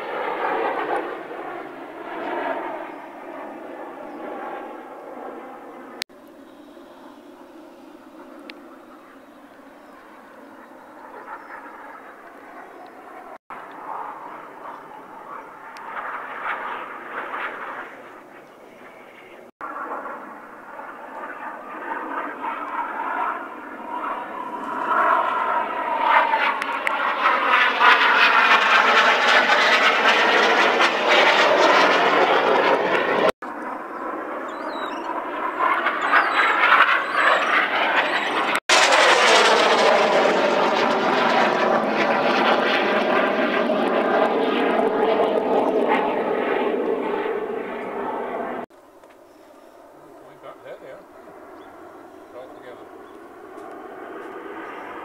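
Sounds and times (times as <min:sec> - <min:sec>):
jets flying past: 0:00.0 - 0:55.0.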